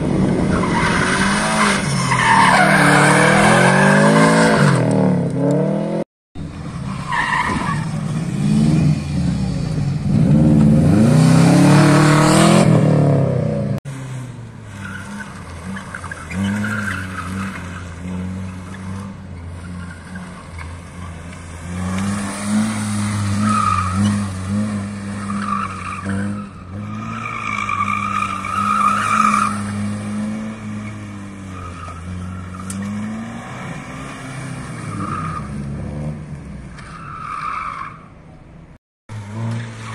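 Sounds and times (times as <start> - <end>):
rally car engine revving: 0.0 - 36.8, 39.1 - 39.9
tyres skidding: 0.0 - 39.9.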